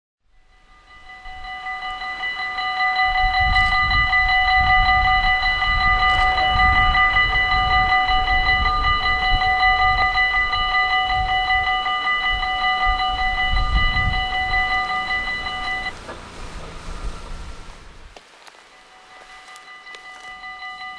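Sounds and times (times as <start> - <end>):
level-crossing warning bell ringing: 0.2 - 16.0, 18.5 - 20.9
low uneven rumbling: 1.1 - 20.6.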